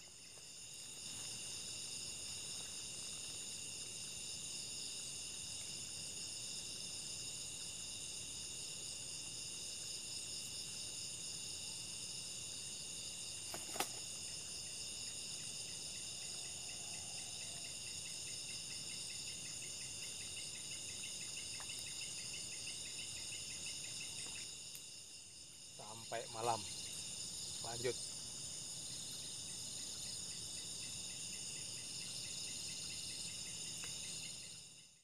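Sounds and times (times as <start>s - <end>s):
crickets buzzing: 0.0s - 35.0s
fast pulsing insect call: 0.0s - 35.0s.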